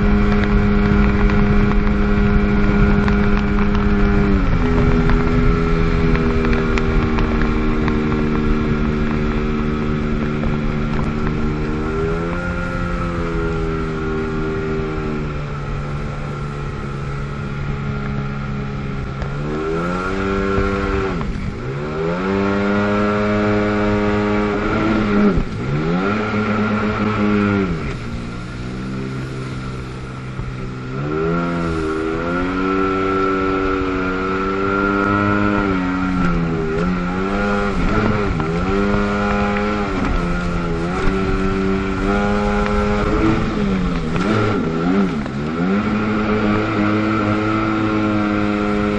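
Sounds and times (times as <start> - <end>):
watercraft engine revving: 0.0 - 48.9.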